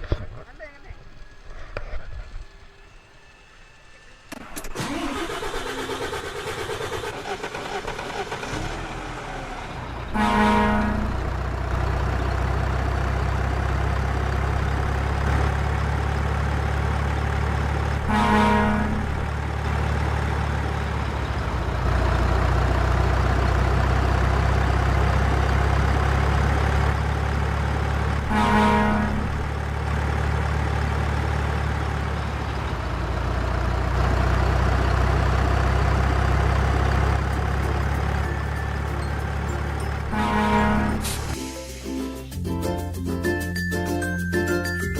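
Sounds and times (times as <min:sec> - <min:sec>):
truck engine running: 0:00.0 - 0:44.9
truck horn honking: 0:04.3 - 0:06.2, 0:07.0 - 0:41.5.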